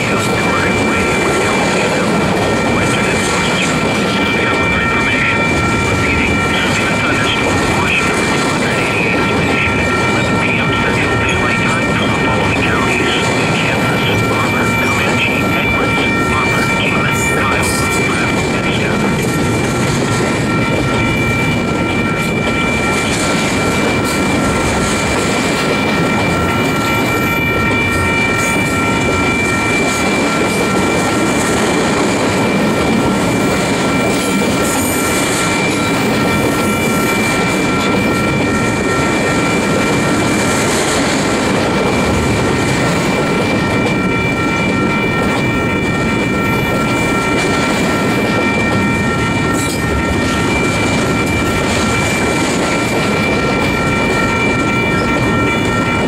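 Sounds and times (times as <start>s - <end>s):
steel wheels rumbling on rail: 0.0s - 56.0s
high-pitched ringing tone: 2.6s - 56.0s.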